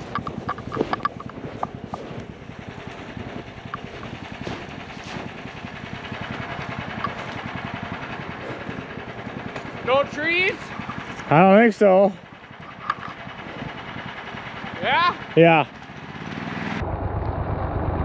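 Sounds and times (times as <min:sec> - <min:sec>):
tracked sled engine running: 0:00.0 - 0:18.0.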